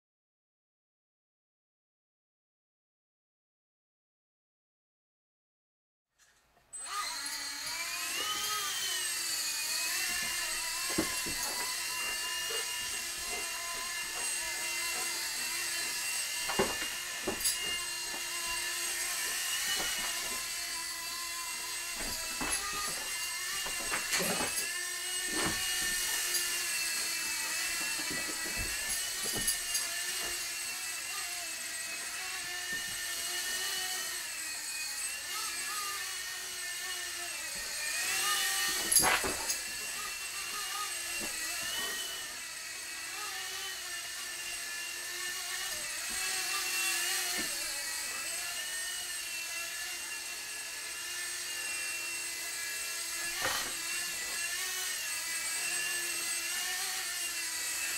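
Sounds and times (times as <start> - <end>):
rc helicopter rotor whine: 6.8 - 57.9.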